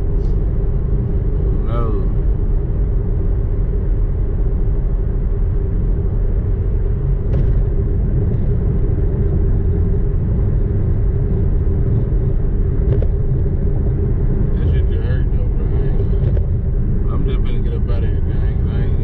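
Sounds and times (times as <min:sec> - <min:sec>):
car road and engine rumble: 0:00.0 - 0:19.0
steady hum: 0:00.0 - 0:19.0.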